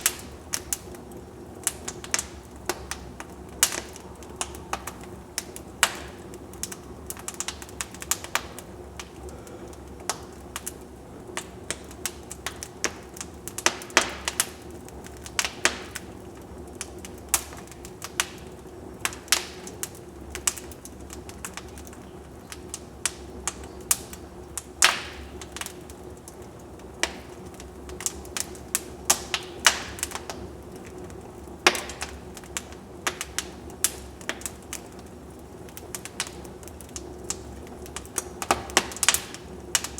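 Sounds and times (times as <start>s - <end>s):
fire crackling and popping: 0.0s - 39.9s
low hiss of fire: 0.0s - 39.9s.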